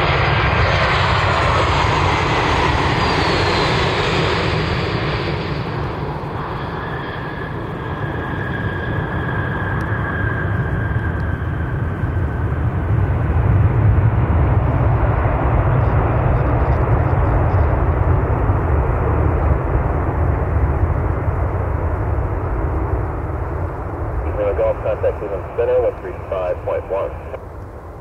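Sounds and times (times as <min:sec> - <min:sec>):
jet engines passing close: 0:00.0 - 0:28.0.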